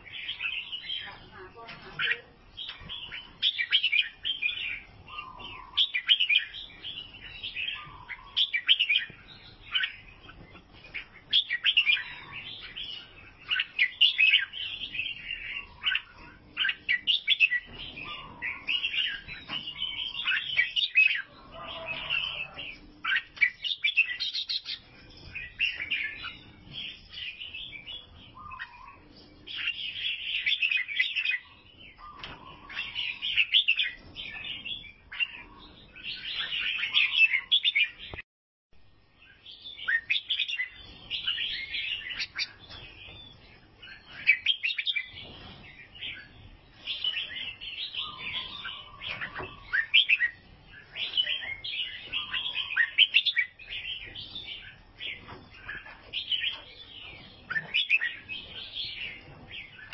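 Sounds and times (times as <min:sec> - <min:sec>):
bulbul chirping and calling: 0:00.0 - 0:38.2, 0:39.3 - 0:59.9.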